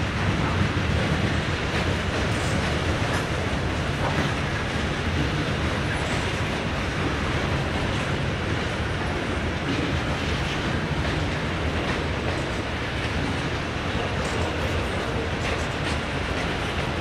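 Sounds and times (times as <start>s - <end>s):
freight cars rolling on rails: 0.0s - 17.0s.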